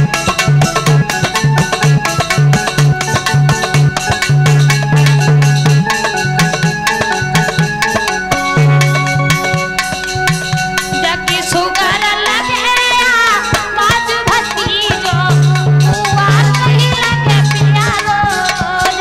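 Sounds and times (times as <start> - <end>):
electronic keyboard melody: 0.0 - 19.0
fast hand-drum beat: 0.0 - 19.0.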